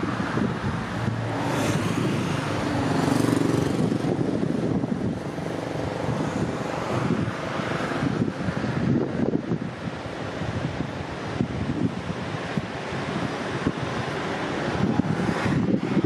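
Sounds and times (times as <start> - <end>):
highway traffic passing: 0.0 - 16.0
wind buffeting microphone: 0.0 - 16.0.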